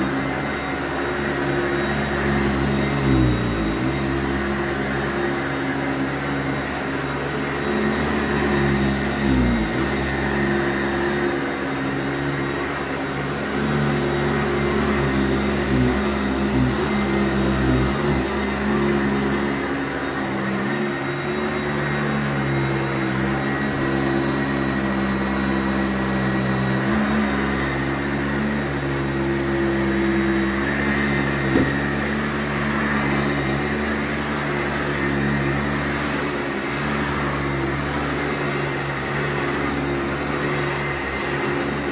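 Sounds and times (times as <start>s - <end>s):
vacuum cleaner running on carpet: 0.0s - 41.9s.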